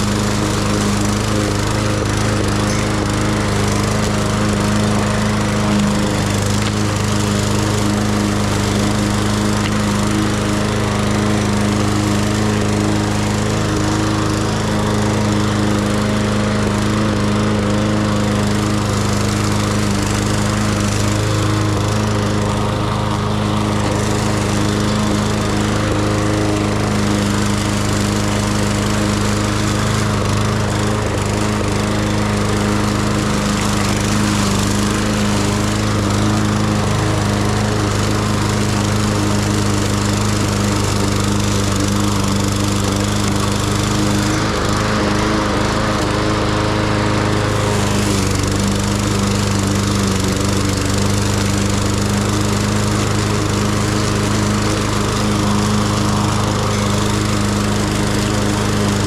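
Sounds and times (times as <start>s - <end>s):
lawn mower engine cutting grass: 0.0s - 59.0s.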